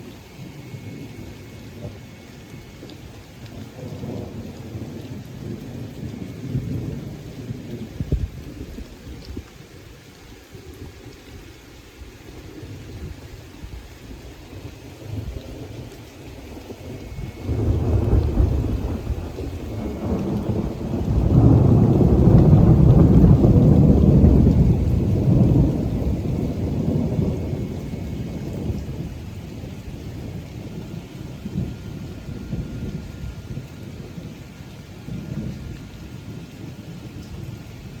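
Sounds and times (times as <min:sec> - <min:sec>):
rolling thunder: 0:00.0 - 0:09.4, 0:12.5 - 0:38.0
rain falling: 0:00.0 - 0:38.0.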